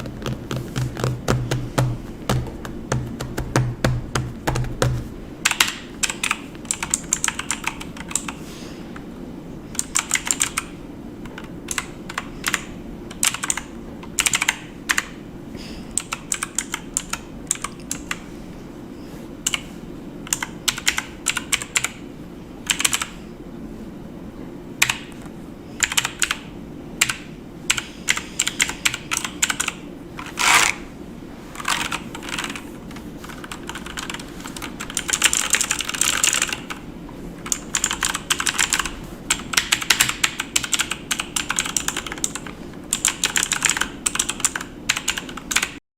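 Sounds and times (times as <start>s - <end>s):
low background hum: 0.0s - 45.8s.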